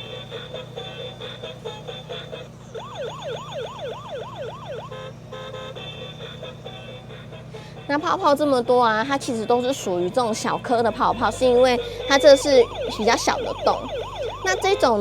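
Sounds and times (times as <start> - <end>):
low fan hum: 0.0 - 15.0
wailing toy siren: 0.0 - 15.0.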